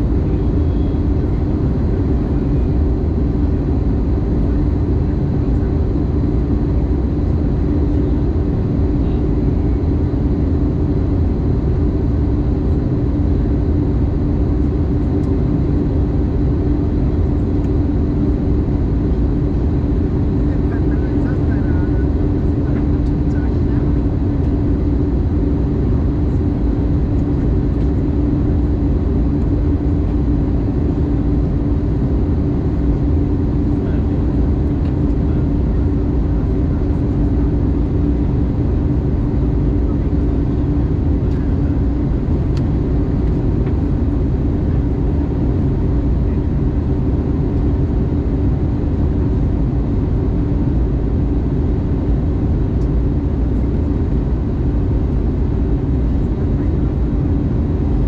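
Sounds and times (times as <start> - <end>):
airplane cabin engine rush: 0.0 - 58.0.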